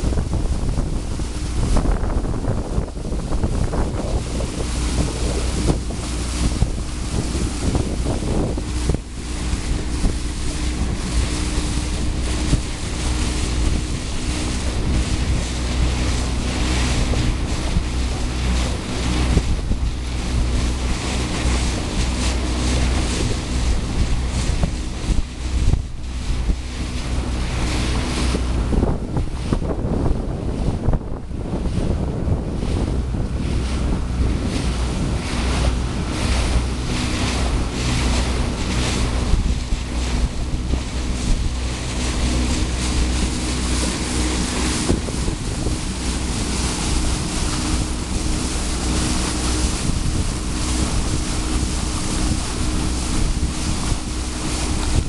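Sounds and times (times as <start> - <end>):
boat engine drone: 0.0 - 55.0
water rushing past hull: 0.0 - 55.0
wind buffeting microphone: 0.0 - 55.0.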